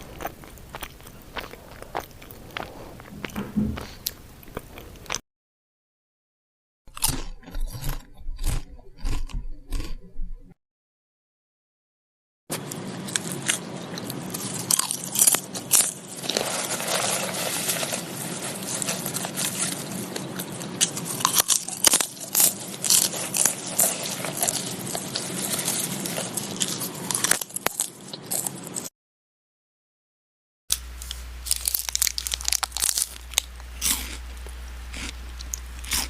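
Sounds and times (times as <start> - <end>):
crunching and chewing crisp food: 0.0 - 5.2, 6.9 - 10.1, 12.5 - 28.9, 30.7 - 36.0.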